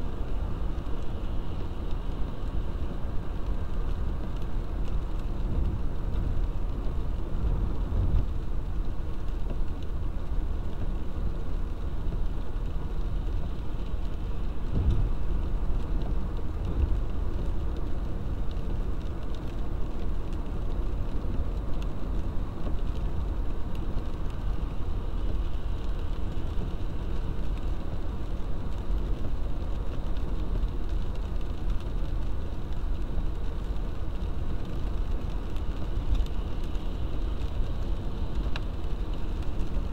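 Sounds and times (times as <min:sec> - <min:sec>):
car engine and tyres rumbling: 0:00.0 - 0:39.9
spray and rain hissing: 0:00.0 - 0:39.9.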